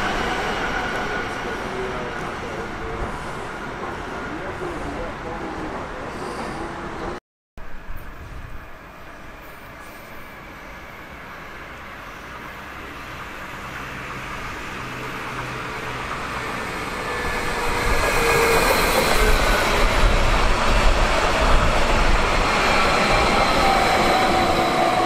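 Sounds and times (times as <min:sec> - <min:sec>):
electric train rail rumble: 0:00.0 - 0:25.0.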